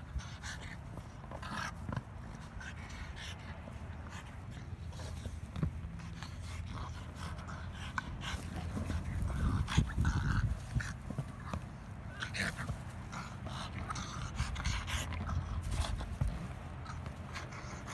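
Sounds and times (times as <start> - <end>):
small dogs panting: 0.0 - 17.9.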